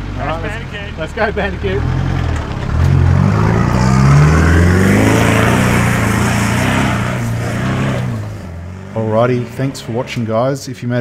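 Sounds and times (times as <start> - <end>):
car engine accelerating: 0.0 - 10.6
tyres on dirt: 0.0 - 10.6.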